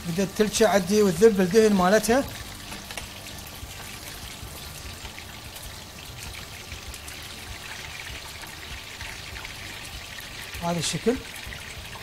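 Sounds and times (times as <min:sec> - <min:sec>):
fat sizzling in a frying pan: 0:00.0 - 0:12.0.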